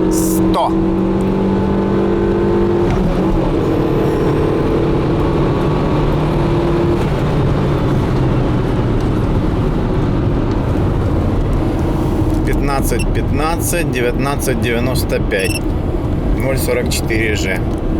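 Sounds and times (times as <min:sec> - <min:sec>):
road noise: 0:00.0 - 0:17.9
car engine running: 0:00.8 - 0:16.4.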